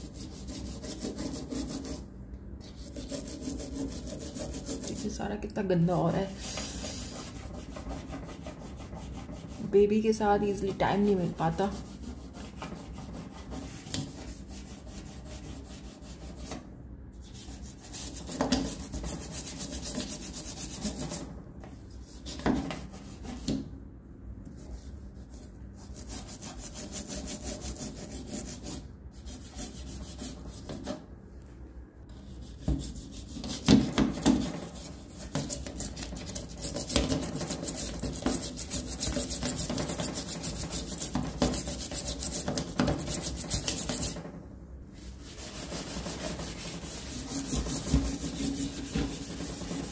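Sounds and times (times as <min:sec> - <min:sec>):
toothbrush scrubbing metal stovetop: 0:00.0 - 0:05.3, 0:06.0 - 0:16.6, 0:17.2 - 0:21.4, 0:24.5 - 0:31.0, 0:32.1 - 0:44.3, 0:45.0 - 0:49.9.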